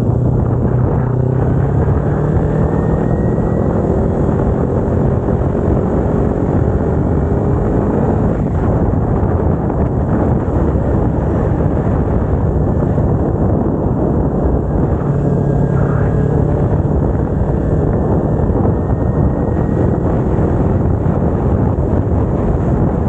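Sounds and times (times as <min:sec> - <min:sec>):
motorcycle engine cruising: 0:00.0 - 0:23.0
wind rushing over microphone: 0:00.0 - 0:23.0.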